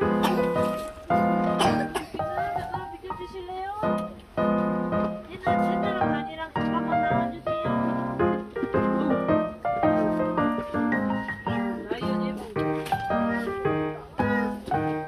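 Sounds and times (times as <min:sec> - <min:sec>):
piano-like keyboard chords: 0:00.0 - 0:15.0.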